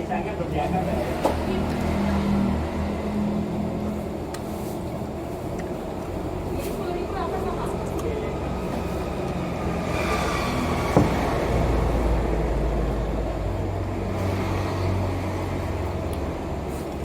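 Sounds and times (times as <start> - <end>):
large vehicle engine rumbling: 0.0 - 17.0.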